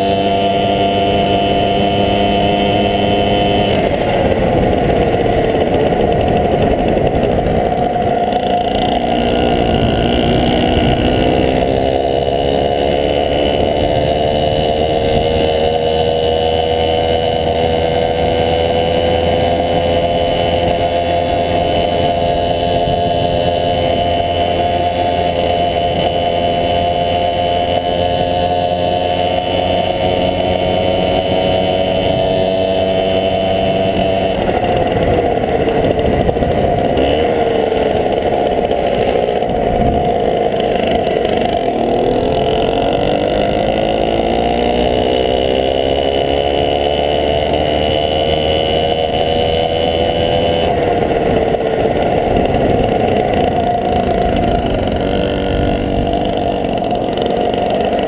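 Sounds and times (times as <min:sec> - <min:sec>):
moped engine running: 0:00.0 - 0:58.0.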